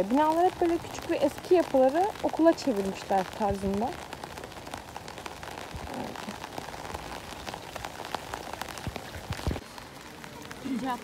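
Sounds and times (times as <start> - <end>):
rain falling on wet street: 0.0 - 11.0
sharp ticks of raindrops: 0.0 - 11.0.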